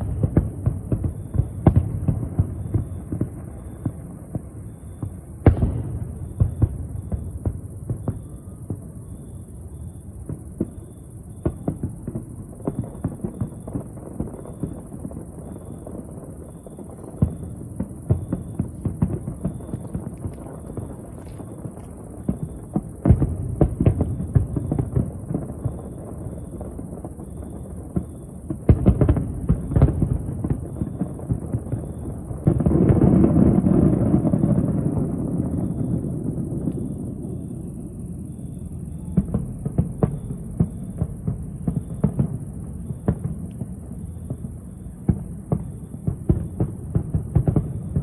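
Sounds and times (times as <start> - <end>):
distant fireworks booming and crackling: 0.0 - 48.0.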